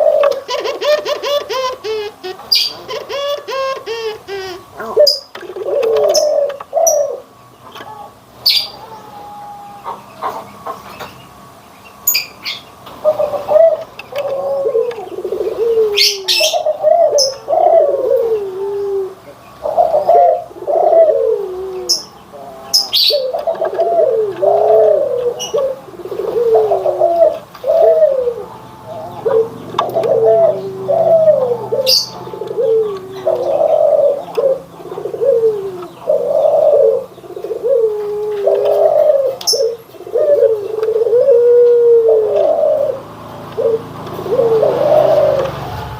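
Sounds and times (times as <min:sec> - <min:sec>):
doves cooing: 0:00.0 - 0:10.8, 0:11.4 - 0:45.9.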